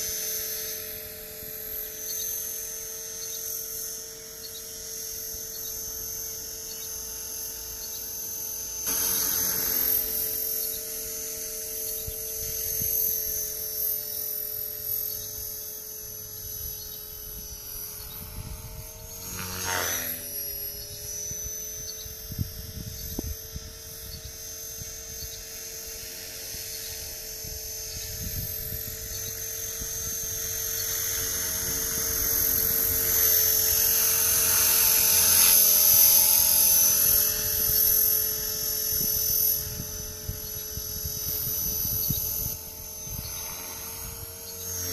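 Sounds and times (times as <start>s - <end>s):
rc helicopter whine: 0.0s - 44.9s.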